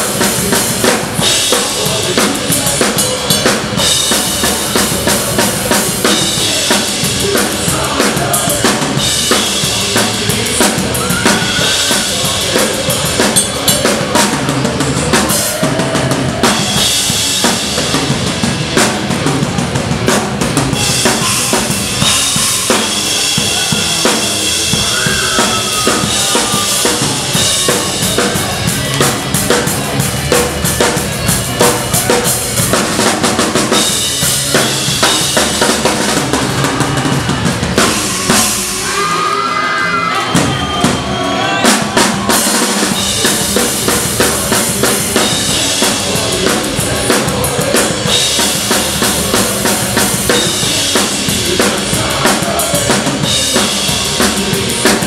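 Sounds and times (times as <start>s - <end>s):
drum kit: 0.0s - 55.0s
punk rock band playing live: 0.0s - 55.0s.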